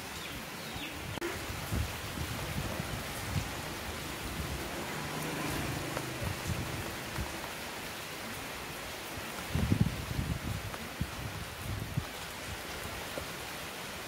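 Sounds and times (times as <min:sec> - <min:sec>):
rain falling: 0:00.0 - 0:14.0
raindrops tapping on leaves: 0:00.0 - 0:14.0.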